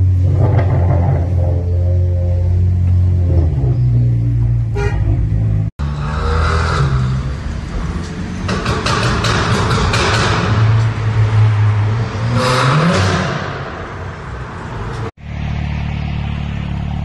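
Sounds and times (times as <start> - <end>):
car engine and exhaust droning: 0.0 - 17.0.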